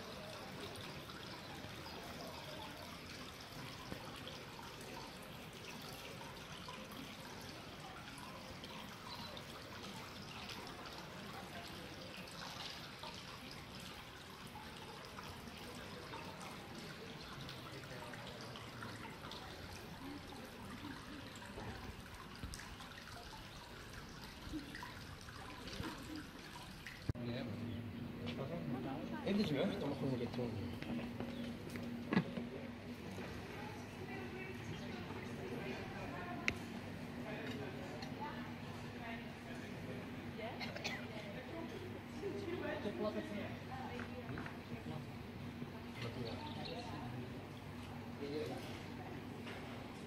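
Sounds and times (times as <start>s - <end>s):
water dripping: 0.0s - 27.2s, 29.2s - 48.6s
water trickling and splashing: 0.0s - 27.2s, 28.3s - 50.0s.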